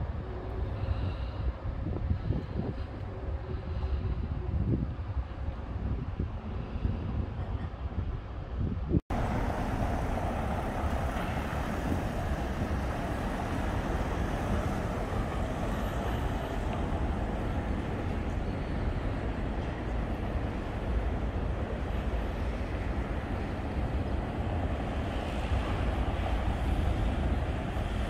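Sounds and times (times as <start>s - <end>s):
city traffic hum: 0.0s - 28.0s.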